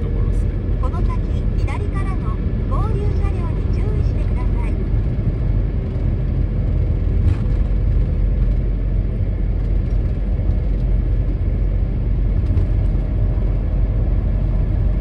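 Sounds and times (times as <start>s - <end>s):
road and engine rumble inside car: 0.0s - 15.0s.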